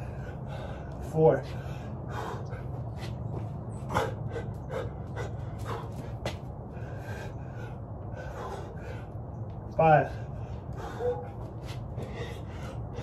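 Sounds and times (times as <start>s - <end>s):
man panting: 0.0s - 13.0s.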